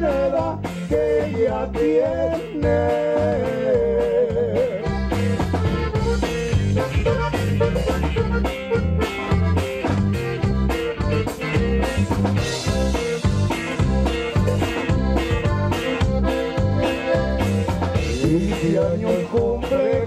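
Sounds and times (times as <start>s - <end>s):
accordion-led band music: 0.0s - 20.0s.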